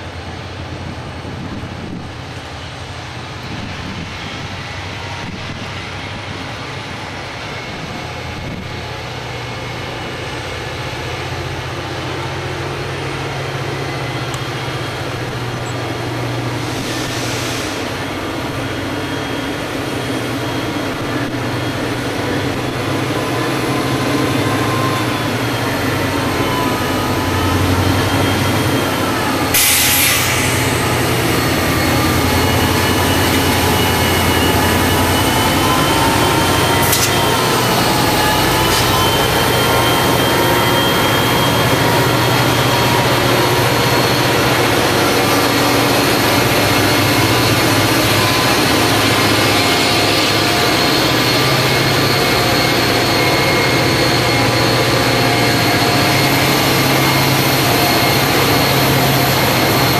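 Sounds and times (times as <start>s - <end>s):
diesel locomotives drumming: 0.0s - 59.9s
high wavering whine: 9.6s - 59.9s.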